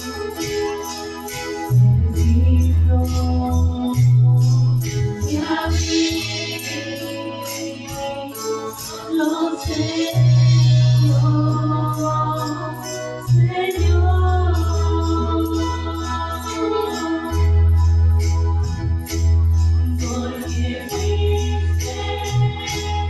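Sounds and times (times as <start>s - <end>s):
sustained bass notes: 0.0s - 8.2s, 9.6s - 23.0s
person singing: 2.1s - 17.8s, 19.8s - 23.0s.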